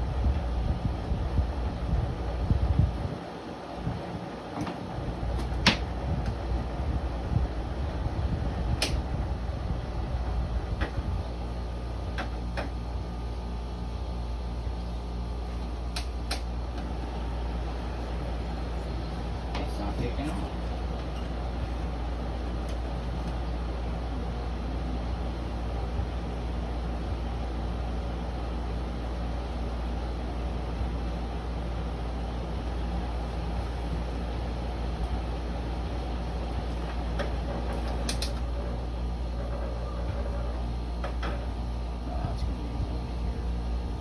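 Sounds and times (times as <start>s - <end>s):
air conditioner running: 0.0s - 44.0s.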